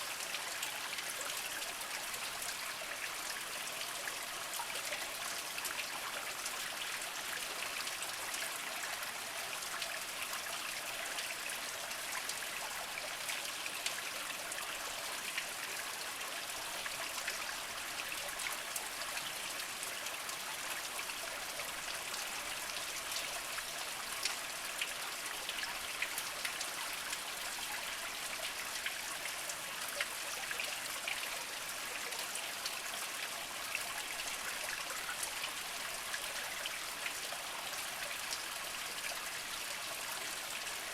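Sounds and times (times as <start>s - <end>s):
spring water trickling over rocks: 0.0s - 40.9s.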